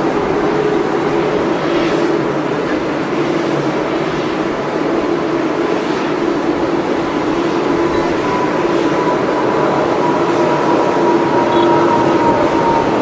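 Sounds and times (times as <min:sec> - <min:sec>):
jet engines at takeoff thrust: 0:00.0 - 0:13.0.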